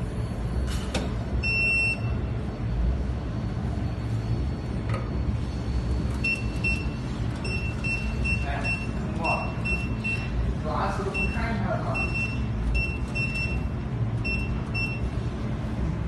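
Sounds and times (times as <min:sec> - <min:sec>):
welding machine low hum: 0:00.0 - 0:16.0.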